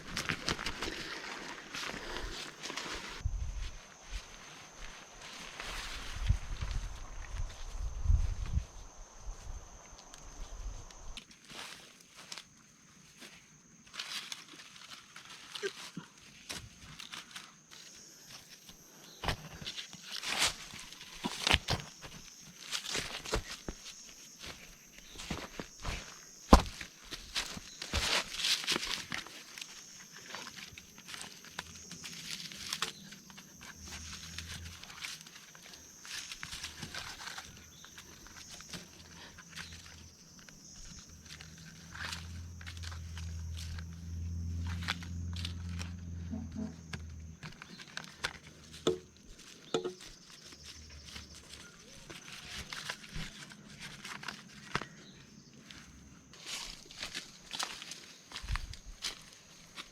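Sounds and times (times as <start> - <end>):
rustling and knocks of camping gear: 0.0 - 8.6, 18.6 - 46.0, 46.8 - 59.9.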